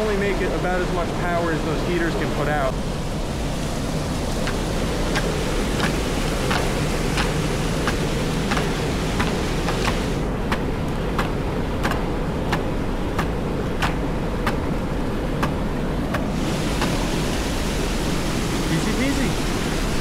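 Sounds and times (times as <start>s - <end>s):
water rushing through channel: 0.0s - 20.0s.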